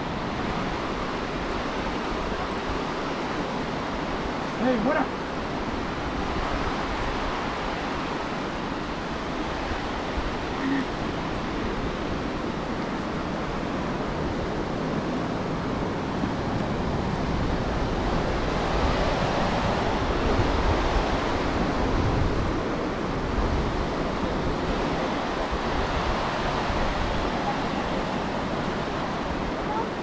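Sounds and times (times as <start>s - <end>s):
surf washing in: 0.0s - 30.0s.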